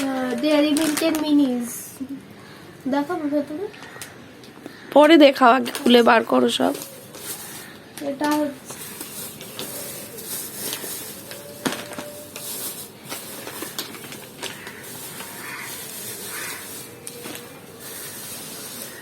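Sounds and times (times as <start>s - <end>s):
plastic packets crinkling: 0.0s - 2.0s, 5.4s - 19.0s.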